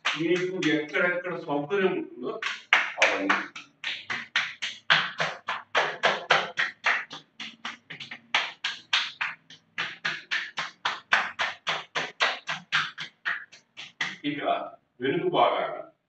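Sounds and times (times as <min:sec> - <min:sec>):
palms slapping bare chest: 0:00.0 - 0:01.0, 0:02.4 - 0:14.2.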